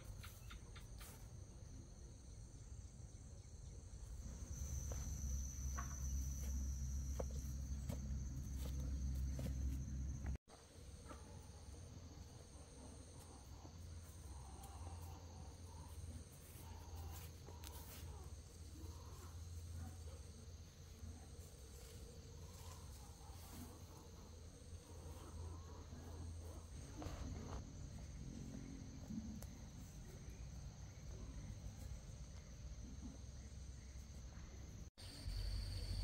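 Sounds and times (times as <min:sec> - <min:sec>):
insect steady shrill trill: 0:00.0 - 0:10.4, 0:11.0 - 0:36.0.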